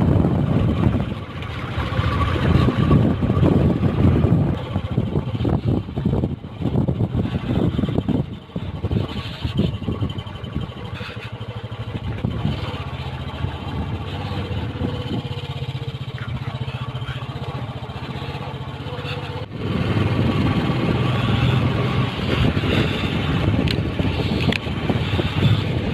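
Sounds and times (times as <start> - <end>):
motorcycle engine running: 0.0 - 25.9
road and air noise: 0.0 - 25.9.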